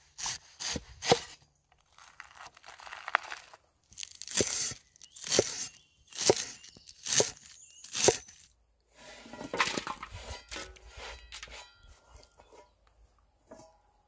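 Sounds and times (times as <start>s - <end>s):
scraping crunch strokes: 0.0s - 12.4s.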